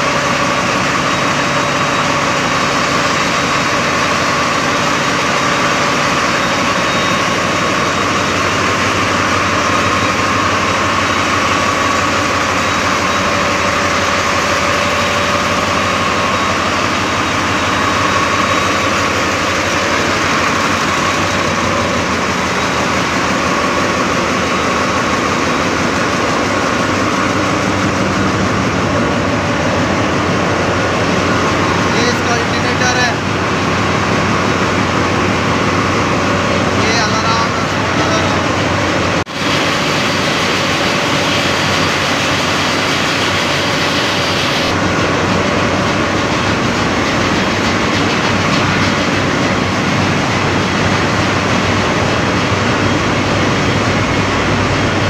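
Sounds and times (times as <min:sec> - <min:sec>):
marine diesel engines din: 0:00.0 - 0:55.0
steady machinery whine: 0:00.0 - 0:55.0.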